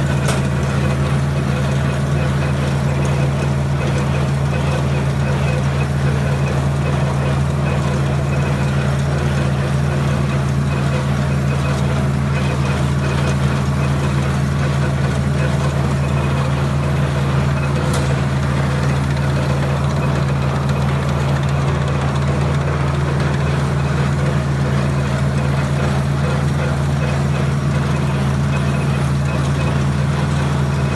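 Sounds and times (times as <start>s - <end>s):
tractor engine droning: 0.0s - 30.9s.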